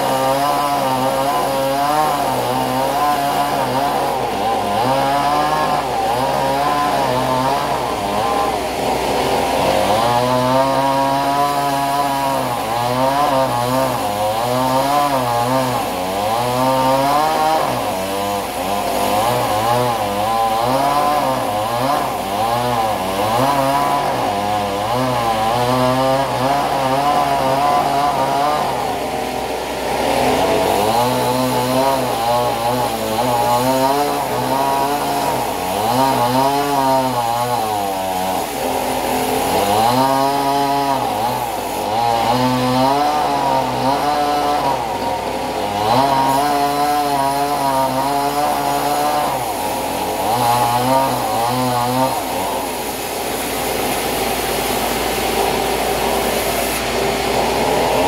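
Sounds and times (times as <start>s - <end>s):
band sawmill sawing log: 0.0s - 58.0s.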